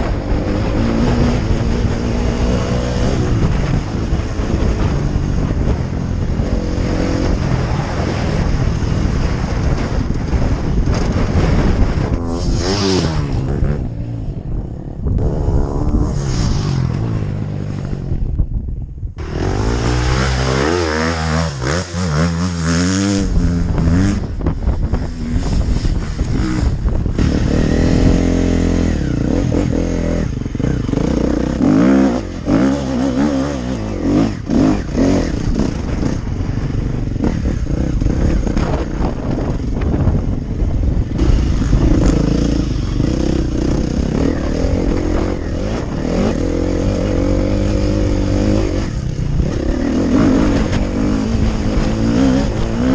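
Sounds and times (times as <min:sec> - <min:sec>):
motorcycle engine revving: 0:00.0 - 0:52.9
wind buffeting microphone: 0:00.0 - 0:52.9.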